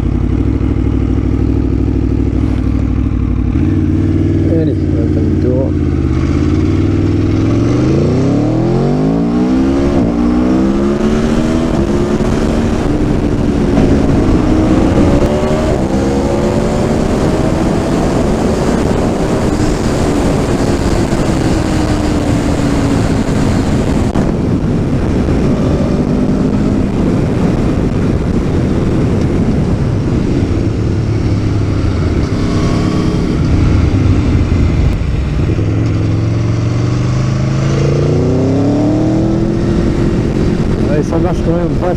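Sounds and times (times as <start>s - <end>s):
motorcycle engine accelerating: 0.0s - 41.9s
wind rush: 5.8s - 41.9s.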